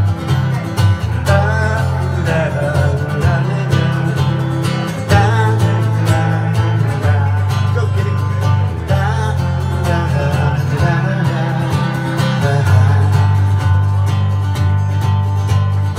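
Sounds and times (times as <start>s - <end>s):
bass line: 0.0s - 15.9s
electric guitar strumming: 0.0s - 15.9s
man singing: 0.6s - 13.8s.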